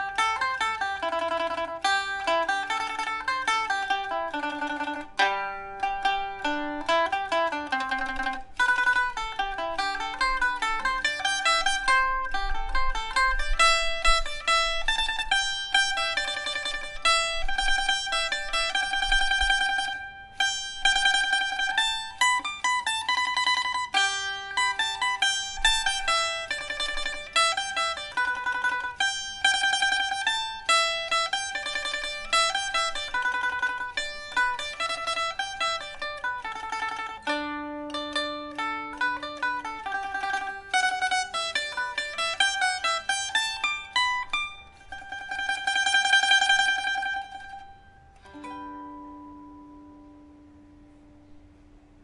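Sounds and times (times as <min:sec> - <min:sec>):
liuqin plucked notes: 0:00.0 - 0:52.0
lute folk melody with tremolo: 0:00.0 - 0:52.0.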